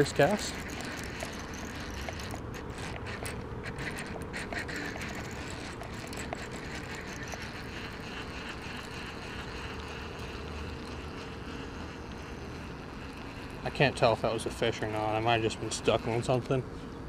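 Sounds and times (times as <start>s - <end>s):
fishing reel gears clicking: 0.0s - 16.6s.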